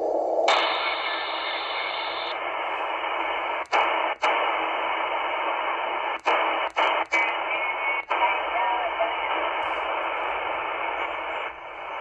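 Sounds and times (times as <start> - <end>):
shortwave radio static hiss: 0.0 - 12.0.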